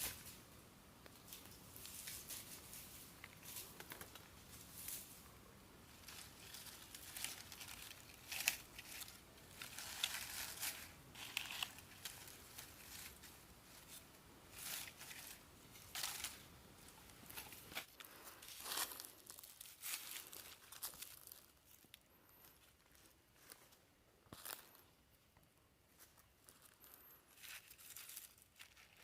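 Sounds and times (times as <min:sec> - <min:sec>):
rustling and crinkling: 0:00.0 - 0:29.0.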